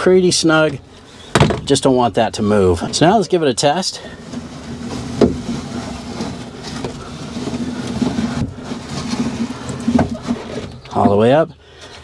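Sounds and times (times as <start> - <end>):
window crank grinding: 0.6 - 12.0.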